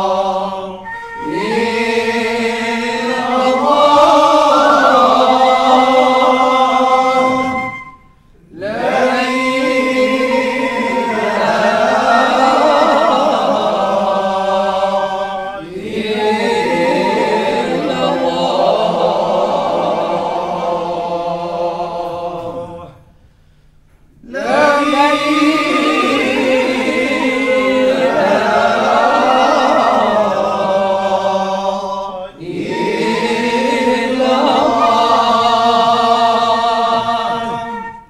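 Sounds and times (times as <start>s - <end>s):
men chanting together: 0.0s - 7.6s, 8.4s - 23.0s, 24.2s - 38.0s.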